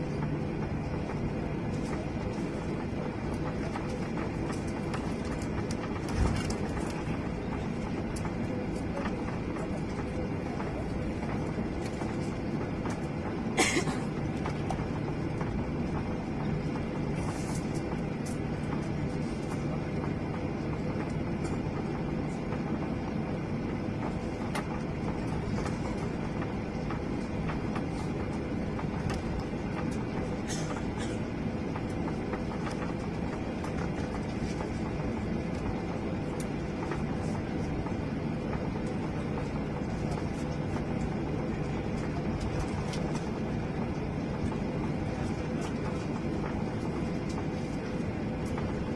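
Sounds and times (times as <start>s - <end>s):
jet engine rumble: 0.0s - 48.9s.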